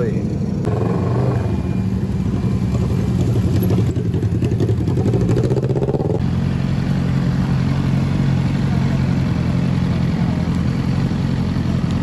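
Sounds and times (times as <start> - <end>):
motorcycle engines at low speed: 0.0 - 12.0.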